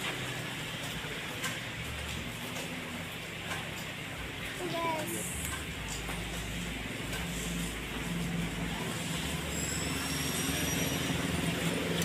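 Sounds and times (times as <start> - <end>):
indistinct background noise: 0.0 - 12.0.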